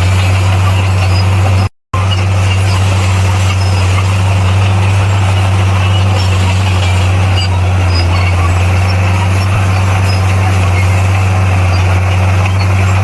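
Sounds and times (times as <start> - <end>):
bulldozer engine droning: 0.0 - 13.0.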